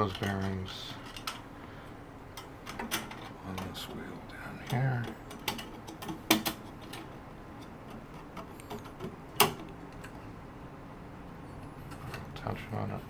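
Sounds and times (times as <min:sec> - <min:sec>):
light clicks and metallic knocks: 0:00.0 - 0:01.5, 0:02.3 - 0:10.3, 0:11.5 - 0:12.7.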